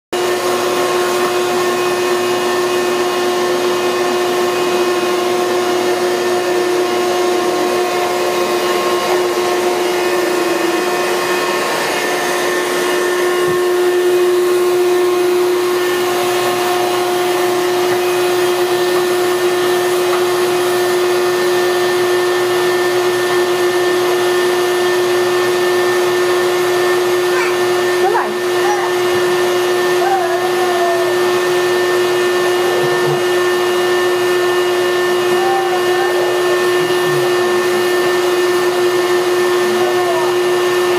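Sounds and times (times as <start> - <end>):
wet dry vacuum running: 0.2 - 40.9.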